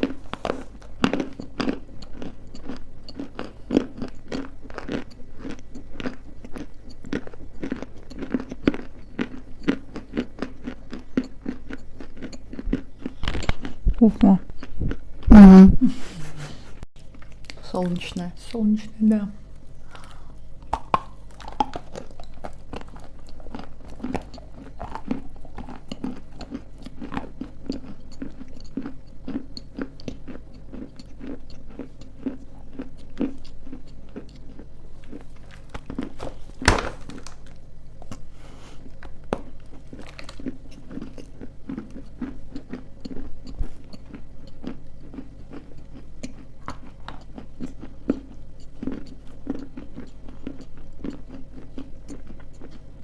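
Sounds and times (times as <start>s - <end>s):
dry clay being chewed: 0.0s - 15.3s, 17.0s - 18.0s, 19.5s - 53.0s.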